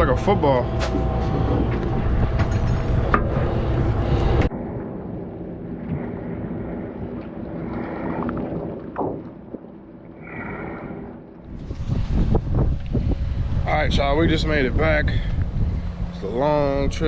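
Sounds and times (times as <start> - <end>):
boat engine droning: 0.0 - 17.0
wind on microphone: 0.0 - 17.0.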